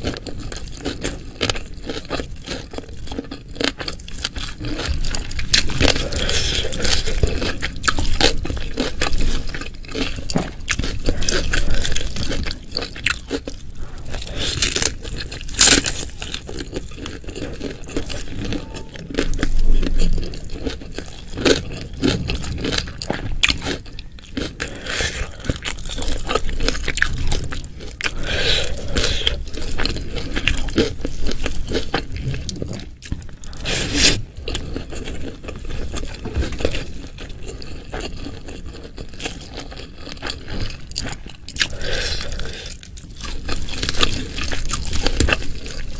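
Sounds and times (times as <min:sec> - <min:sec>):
crunchy chewing: 0:00.0 - 0:45.9.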